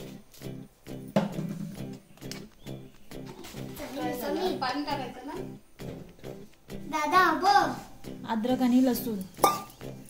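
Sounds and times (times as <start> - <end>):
low-pitched repeating music: 0.5 - 10.0.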